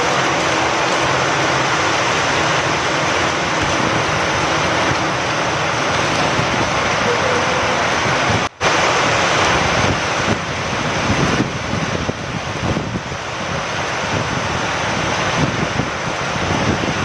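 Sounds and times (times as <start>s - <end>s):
steady rain falling: 0.0s - 17.0s
wind: 0.0s - 17.0s.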